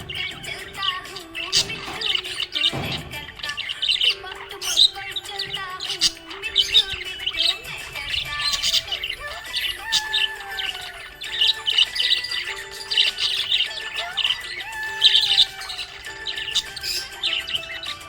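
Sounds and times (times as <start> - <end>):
background music: 0.0 - 18.0
budgies chirping and squawking: 0.0 - 18.0.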